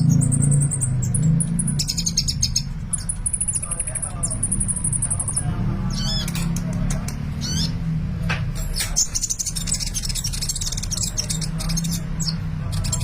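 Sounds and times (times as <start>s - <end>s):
sunbird singing: 0.0s - 7.9s, 8.7s - 13.0s.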